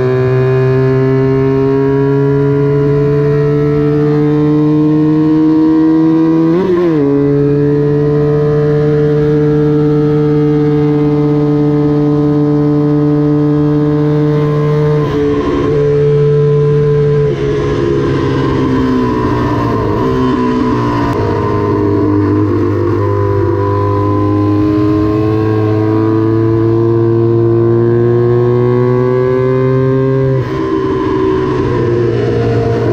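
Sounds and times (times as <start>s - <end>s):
motorcycle engine revving high: 0.0s - 32.9s.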